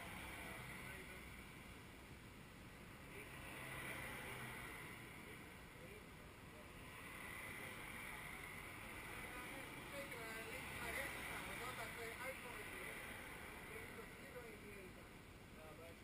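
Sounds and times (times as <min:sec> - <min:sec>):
faint street hiss: 0:00.0 - 0:16.0.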